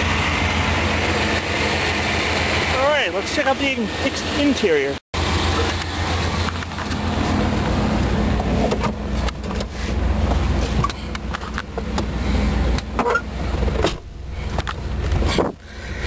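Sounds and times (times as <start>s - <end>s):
engine idling with low hum: 0.0s - 16.0s.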